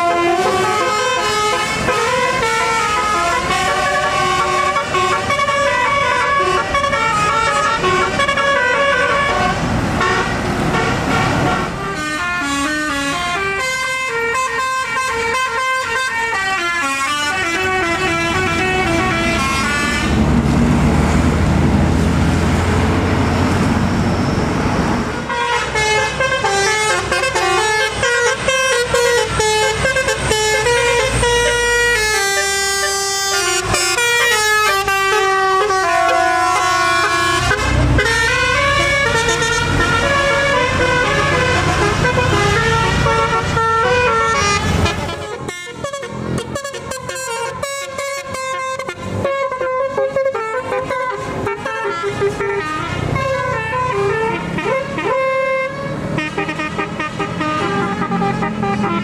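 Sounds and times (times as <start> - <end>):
musical bus horn tunes: 0.0 - 20.2, 25.2 - 59.0
diesel engine and road noise: 0.0 - 59.0.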